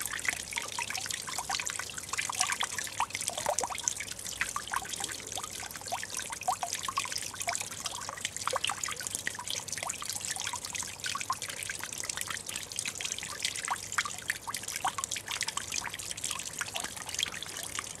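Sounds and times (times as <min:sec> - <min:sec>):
water trickling over stones: 0:00.0 - 0:18.0.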